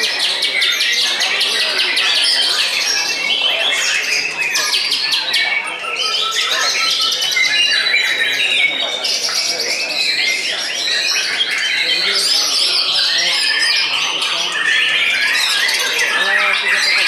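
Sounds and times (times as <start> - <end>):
other songbirds singing: 0.0 - 17.0.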